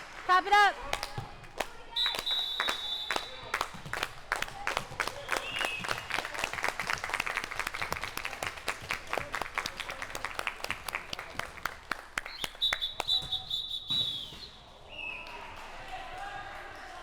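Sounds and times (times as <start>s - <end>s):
spectators clapping: 0.0s - 13.6s, 15.0s - 17.0s.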